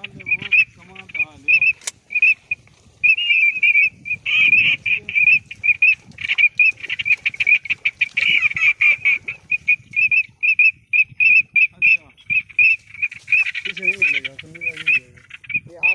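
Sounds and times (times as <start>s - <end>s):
person wading through shallow water: 0.0s - 10.9s, 12.1s - 15.9s
short high duck calls: 0.0s - 15.9s.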